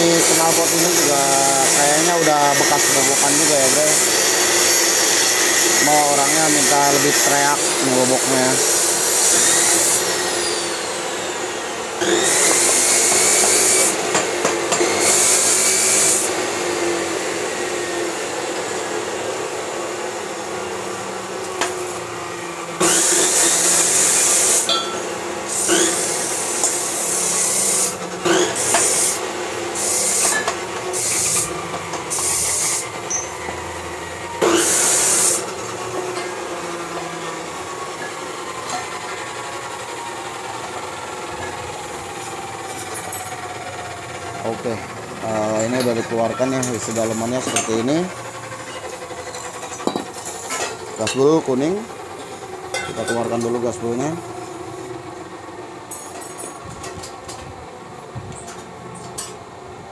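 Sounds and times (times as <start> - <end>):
angle grinder cutting steel: 0.0 - 54.9
grinder motor whining freely: 0.0 - 59.9.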